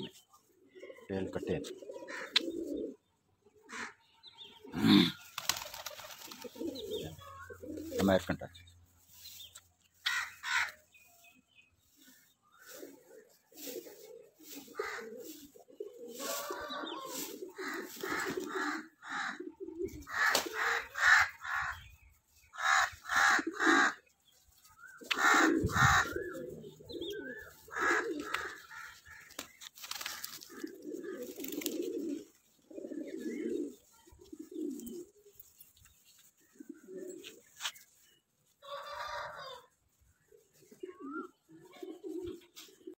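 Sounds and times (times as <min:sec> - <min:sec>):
pigeons cooing: 0:00.0 - 0:09.0, 0:11.9 - 0:42.9.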